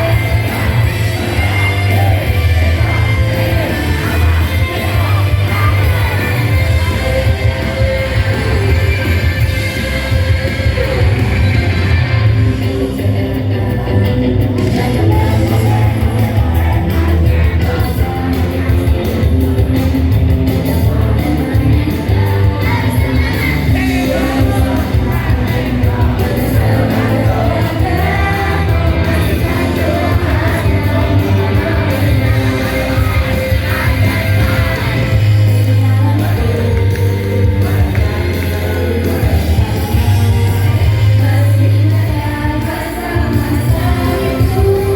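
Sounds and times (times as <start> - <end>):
live band playing: 0.0 - 44.9
person singing: 0.0 - 44.9.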